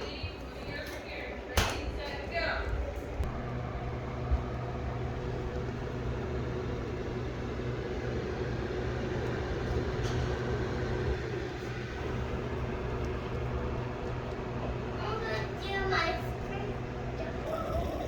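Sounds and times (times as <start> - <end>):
cooling fan humming: 0.0 - 18.0.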